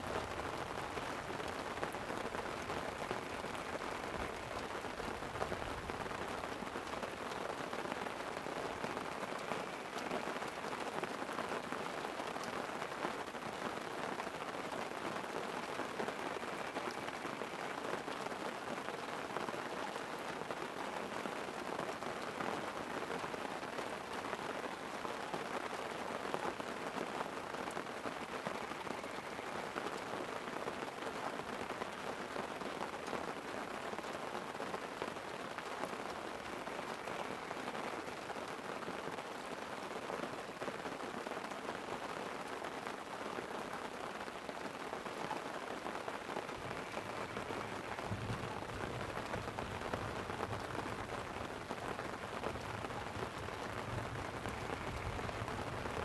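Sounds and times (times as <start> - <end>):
light rain on a tent: 0.0 - 56.0.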